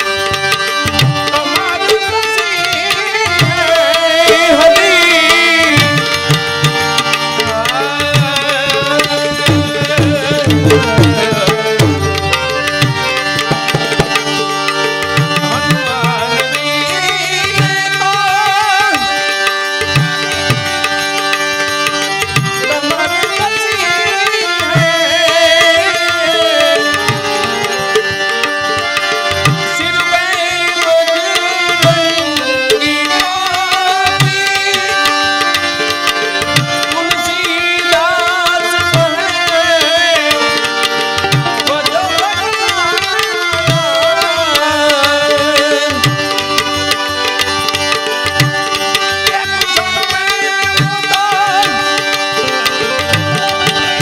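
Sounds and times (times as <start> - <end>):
sustained melodic instruments: 0.0 - 54.0
tabla playing a rhythm: 0.0 - 54.0.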